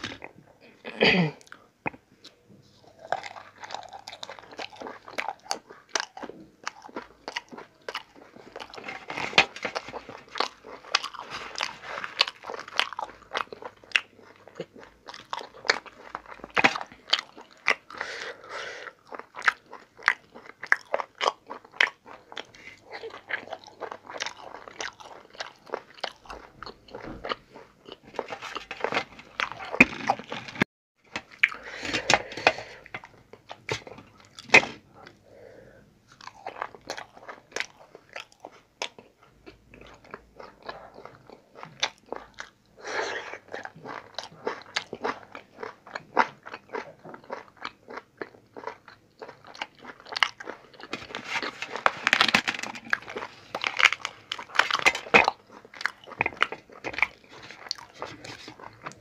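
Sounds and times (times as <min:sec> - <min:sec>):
man chewing food: 0:00.0 - 0:59.0.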